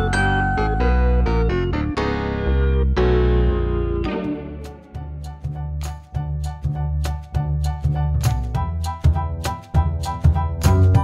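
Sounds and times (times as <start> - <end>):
keyboard music: 0.0 - 11.0.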